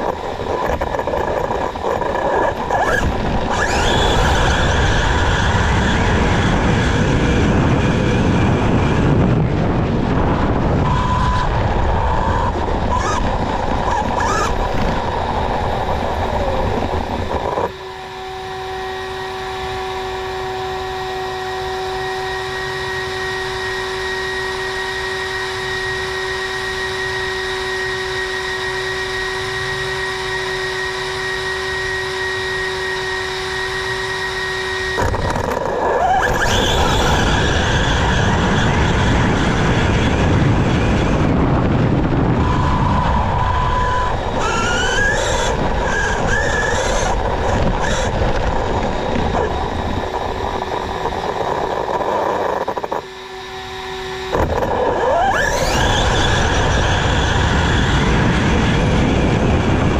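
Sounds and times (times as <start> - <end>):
electric rc truck motor whine: 0.0 - 59.9
steady electronic whine: 0.0 - 59.9.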